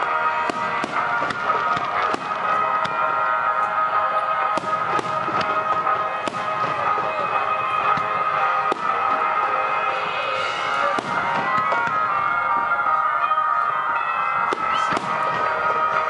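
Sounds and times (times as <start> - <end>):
fireworks bangs and pops: 0.0 - 12.6, 14.4 - 16.0
music playing: 0.0 - 16.0.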